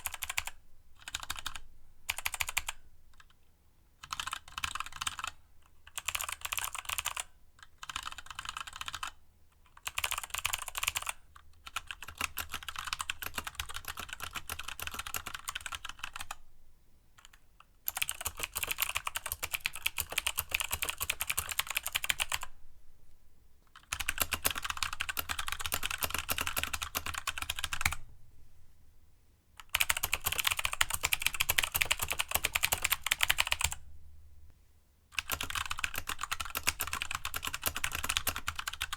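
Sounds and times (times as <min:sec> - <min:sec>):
mechanical keyboard typing: 0:00.0 - 0:03.3, 0:04.0 - 0:09.2, 0:09.8 - 0:16.4, 0:17.2 - 0:22.5, 0:23.8 - 0:28.0, 0:29.6 - 0:33.8, 0:35.2 - 0:38.9.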